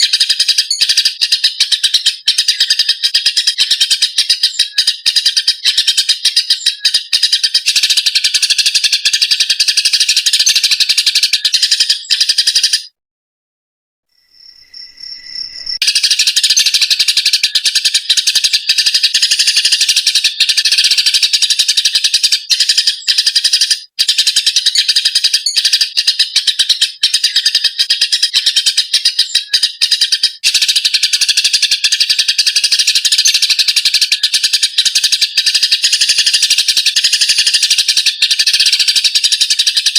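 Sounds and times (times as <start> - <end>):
sparrows chirping rapidly: 0.0 - 12.9, 14.3 - 39.9.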